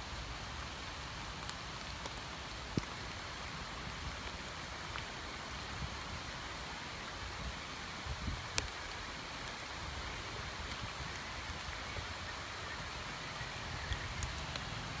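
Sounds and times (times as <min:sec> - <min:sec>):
rain falling on pond water: 0:00.0 - 0:15.0.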